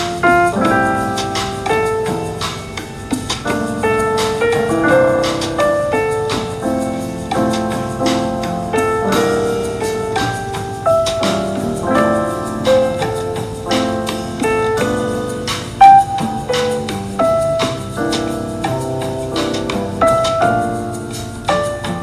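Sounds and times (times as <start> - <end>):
lounge jazz piano: 0.0 - 22.0.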